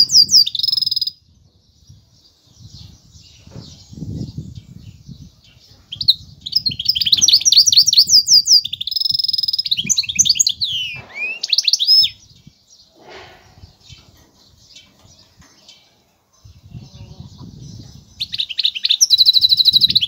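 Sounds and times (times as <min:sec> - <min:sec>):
finch singing chirps and trills: 0:00.0 - 0:20.0.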